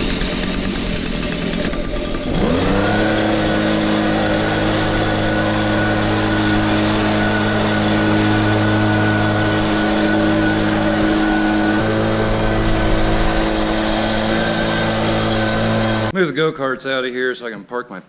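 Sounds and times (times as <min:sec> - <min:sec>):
motor starting and running: 0:00.0 - 0:16.1.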